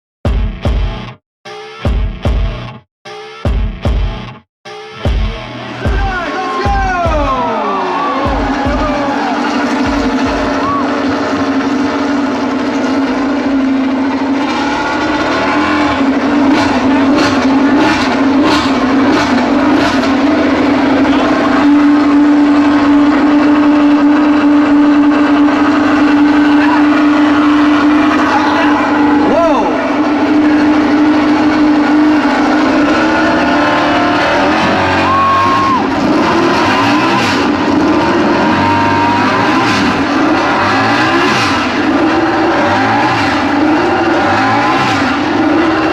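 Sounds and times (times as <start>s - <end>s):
motorcycle engine revving blasts: 7.1s - 45.9s.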